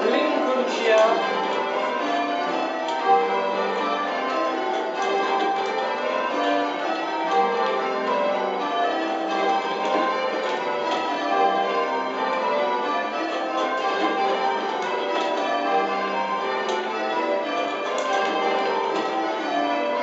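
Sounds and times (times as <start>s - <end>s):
church bells ringing changes: 0.0s - 20.0s.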